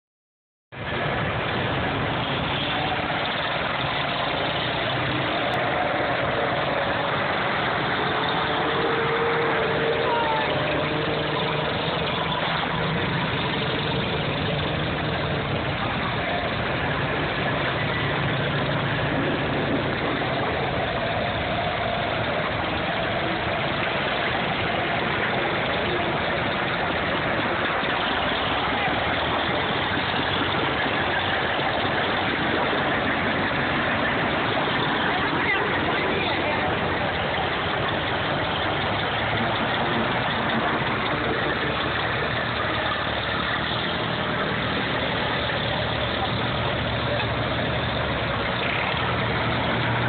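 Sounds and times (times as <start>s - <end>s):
tractor engines running: 0.7s - 50.0s.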